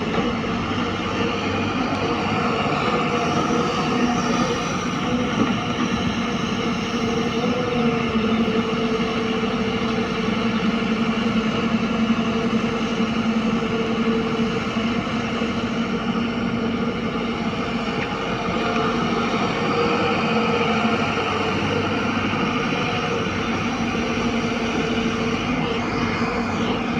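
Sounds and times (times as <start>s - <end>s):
heavy diesel engine droning: 0.0s - 26.9s.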